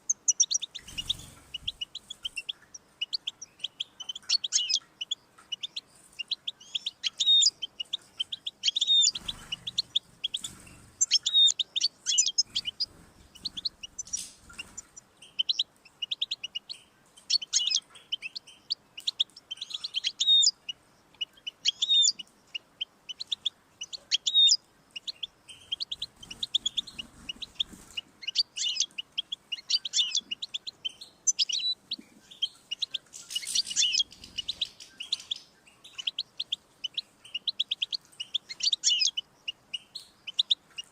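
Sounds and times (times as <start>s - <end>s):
goldfinch singing: 0.0s - 40.9s.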